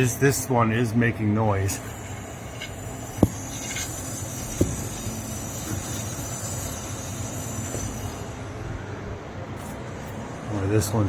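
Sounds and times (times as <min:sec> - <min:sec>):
brake pad grinding metal on metal: 0:01.6 - 0:10.6.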